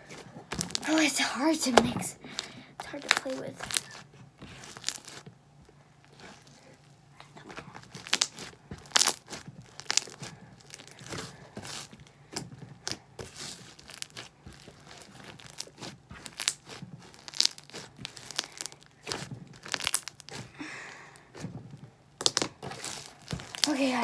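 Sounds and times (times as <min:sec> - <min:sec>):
slime crackling and popping: 0:00.5 - 0:05.4, 0:07.4 - 0:24.0.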